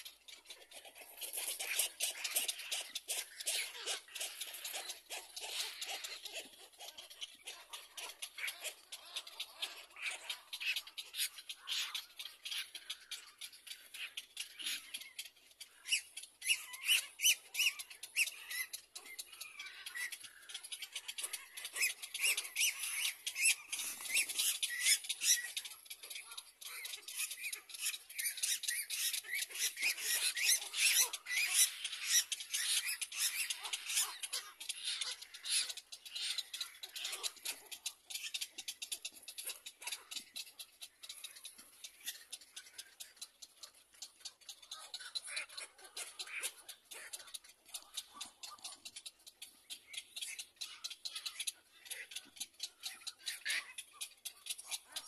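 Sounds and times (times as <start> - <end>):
chicks squeaking begging calls: 0.0 - 55.0.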